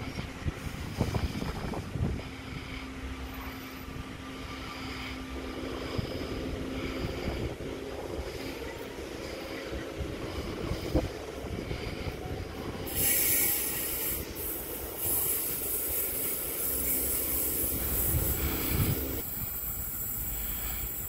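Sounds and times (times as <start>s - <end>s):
electric train rumbling: 0.0s - 21.0s
loud high hissing from train: 0.0s - 21.0s.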